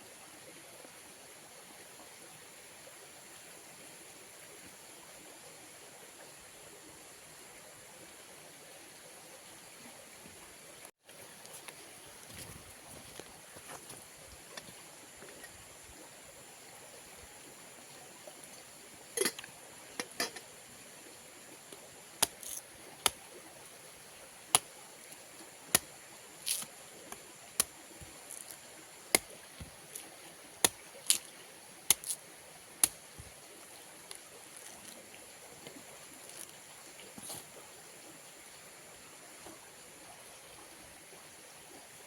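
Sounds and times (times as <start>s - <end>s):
faint steady hiss: 0.0s - 42.0s.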